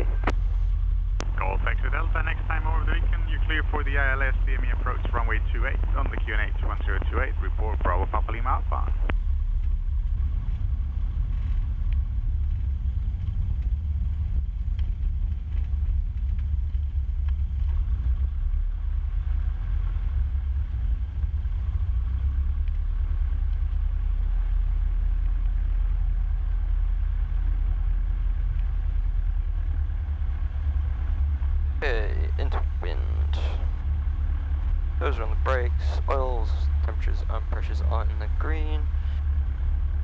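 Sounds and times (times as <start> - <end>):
light aircraft engine and propeller drone: 0.0 - 40.0.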